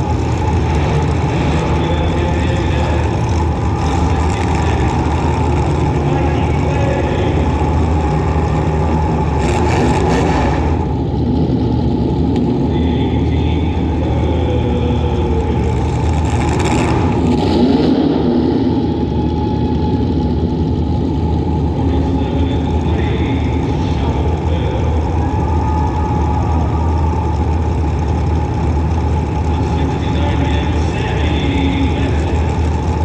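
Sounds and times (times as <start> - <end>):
car engine running loud: 0.0 - 33.0.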